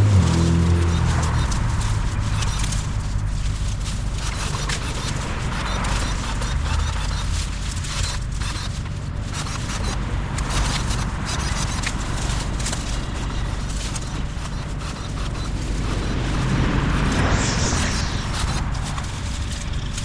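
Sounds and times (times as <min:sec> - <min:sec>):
leaves rustling: 0:00.0 - 0:20.0
steady low hum: 0:00.0 - 0:20.0.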